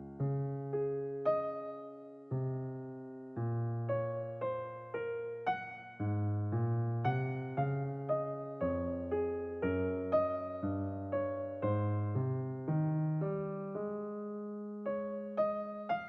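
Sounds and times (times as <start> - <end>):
soft keyboard chords: 0.0 - 16.0.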